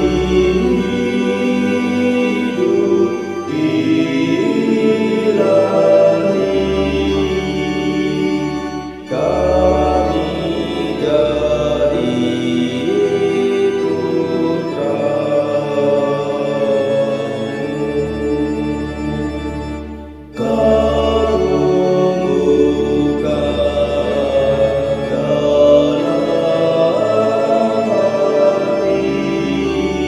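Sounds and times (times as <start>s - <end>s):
choir singing a slow hymn: 0.0s - 30.0s.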